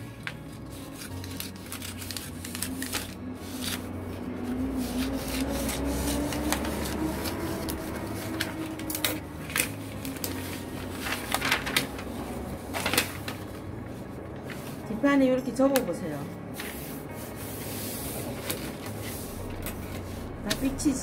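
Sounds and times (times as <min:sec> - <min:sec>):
paper rustling and crackling: 0:00.0 - 0:15.0, 0:16.5 - 0:21.0.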